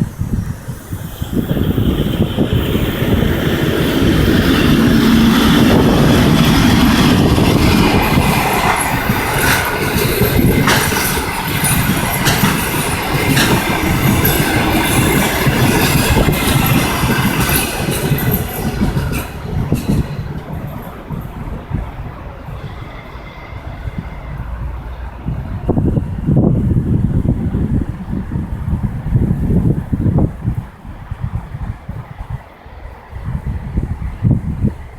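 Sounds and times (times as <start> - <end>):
train wheels clicking over rail joints: 0.0 - 32.2
diesel locomotive engine humming: 0.0 - 34.9.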